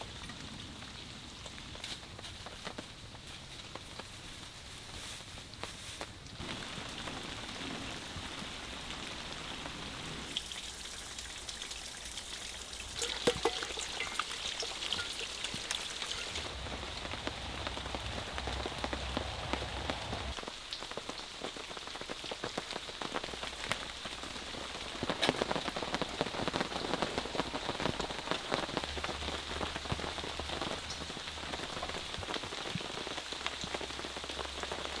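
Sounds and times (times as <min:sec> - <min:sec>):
rain pattering on a surface: 0:00.0 - 0:35.0.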